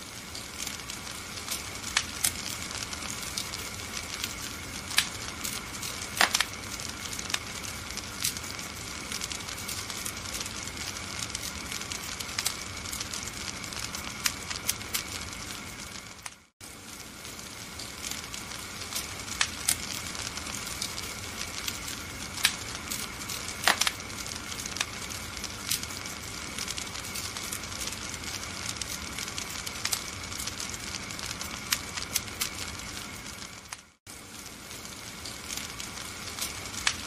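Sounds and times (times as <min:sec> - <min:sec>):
steady hiss: 0:00.0 - 0:37.0
wood fire crackling: 0:00.0 - 0:37.0.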